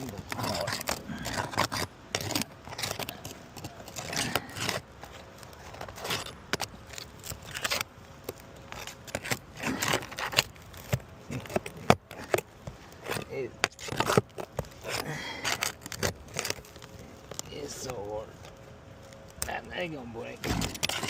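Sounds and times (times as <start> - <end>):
shingle scraping and crackling: 0.0 - 21.0.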